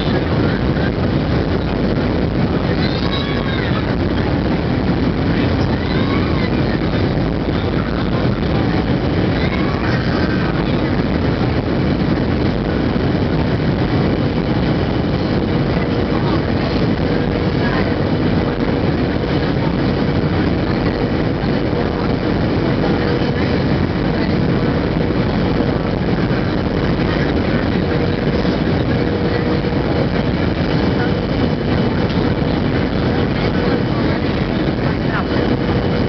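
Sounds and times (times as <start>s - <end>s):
airplane cabin rushing noise: 0.0s - 36.0s
faint steady hum: 0.0s - 36.0s.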